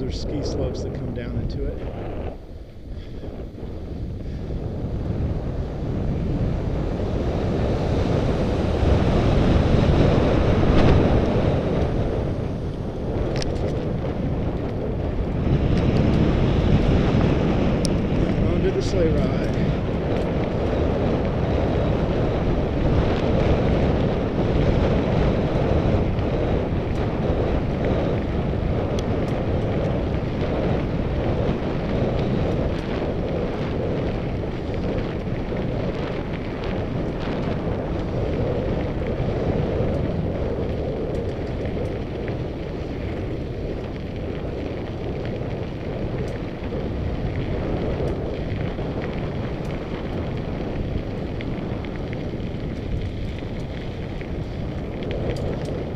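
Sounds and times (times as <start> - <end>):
bike clicks and rattles: 0.0 - 55.9
wind buffeting a microphone: 0.0 - 55.9.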